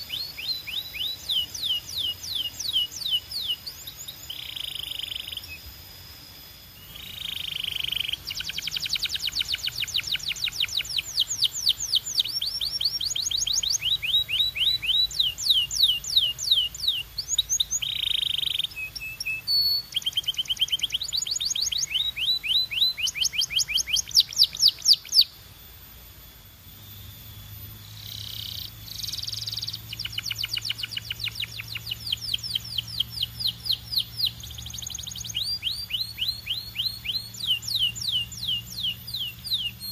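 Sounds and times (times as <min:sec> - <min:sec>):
canary singing fast trills: 0:00.0 - 0:25.4, 0:26.7 - 0:39.9.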